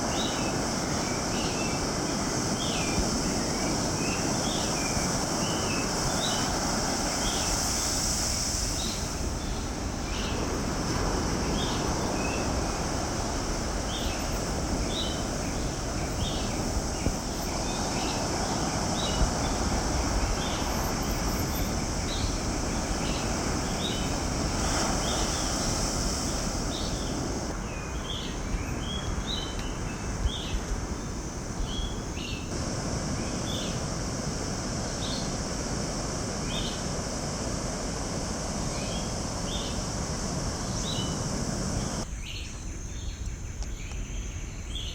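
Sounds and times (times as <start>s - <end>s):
ocean surf: 0.0s - 42.0s
high insect drone: 0.0s - 44.9s.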